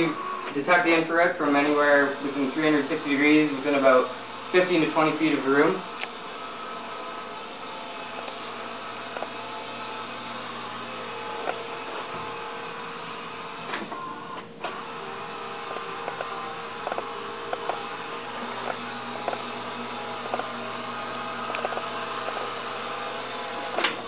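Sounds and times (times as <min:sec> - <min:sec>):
small electric motors running: 0:00.0 - 0:24.0.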